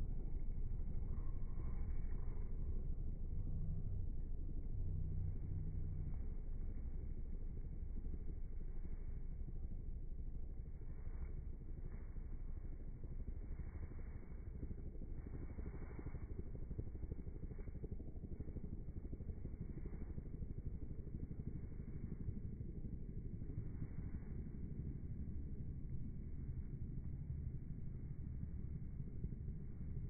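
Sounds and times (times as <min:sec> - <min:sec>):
aircraft engine drone: 0:00.0 - 0:30.0.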